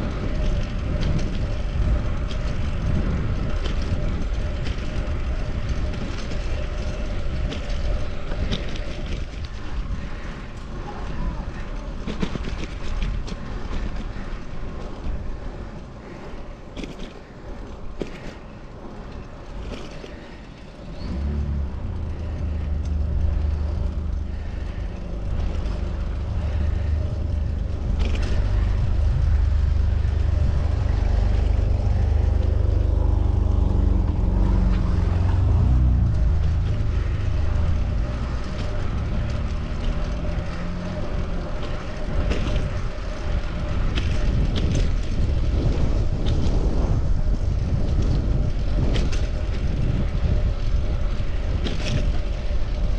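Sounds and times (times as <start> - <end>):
vehicle engine low rumble: 0.0 - 52.9
wind and road noise: 0.0 - 52.9.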